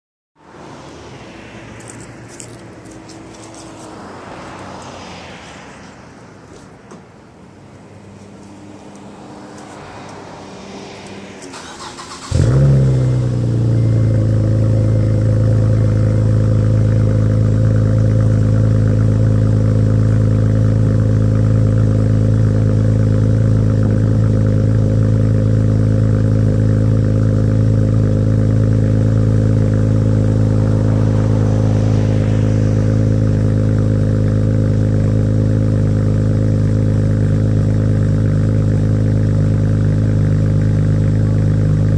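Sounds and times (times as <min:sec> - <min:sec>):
car engine starting and idling: 0:00.4 - 0:41.9.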